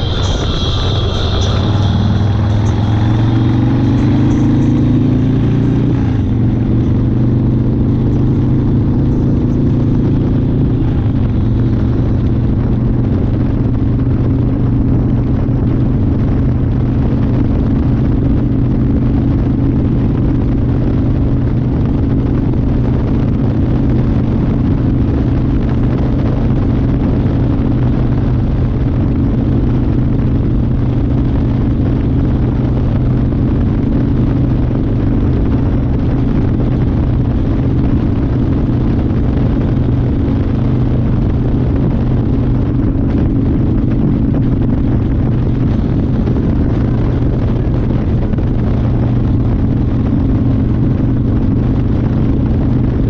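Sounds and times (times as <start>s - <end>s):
motorcycle engine droning: 0.0s - 53.0s.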